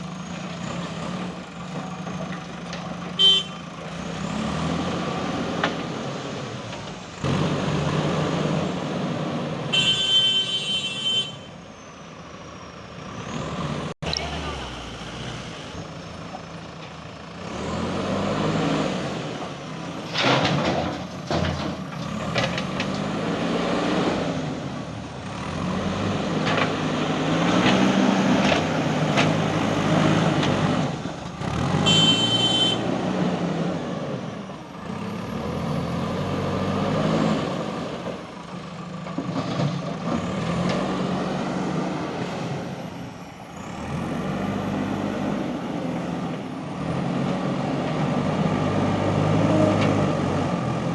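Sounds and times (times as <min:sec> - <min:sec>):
diesel engine revving: 0:00.0 - 0:09.8, 0:12.2 - 0:50.9.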